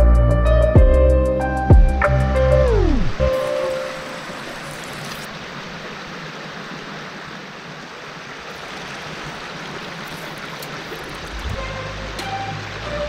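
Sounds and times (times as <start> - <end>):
creek water flowing: 1.4 - 13.0.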